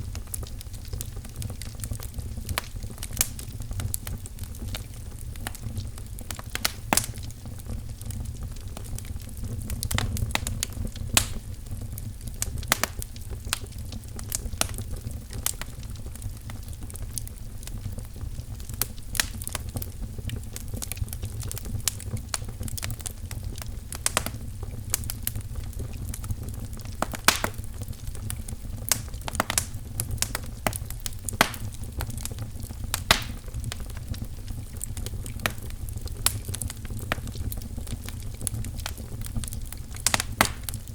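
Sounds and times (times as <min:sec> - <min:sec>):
low rumble of burning logs: 0:00.0 - 0:40.9
wood fire crackling and popping: 0:00.0 - 0:40.9.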